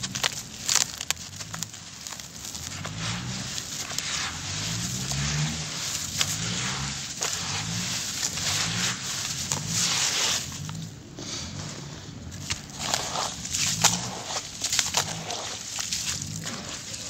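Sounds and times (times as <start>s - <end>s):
gritty crunching and rustling: 0.0s - 17.0s.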